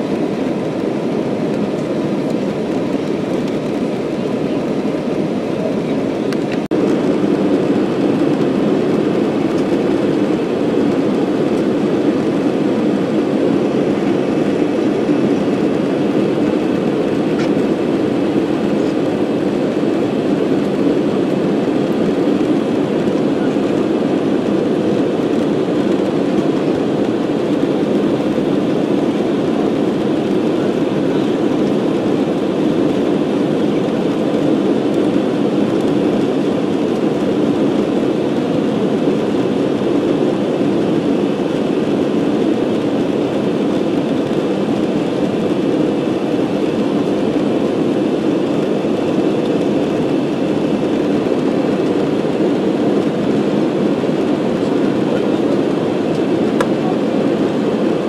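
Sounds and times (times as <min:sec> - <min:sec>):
jet engines and airflow rushing: 0:00.0 - 0:58.0.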